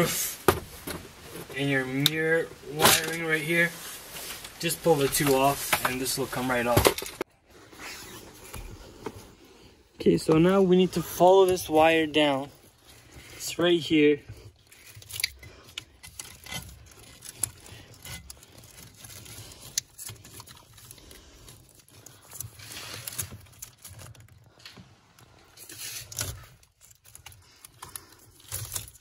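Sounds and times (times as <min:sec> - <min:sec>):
wiring harness rustling and tearing: 0:00.0 - 0:09.5, 0:10.1 - 0:29.0.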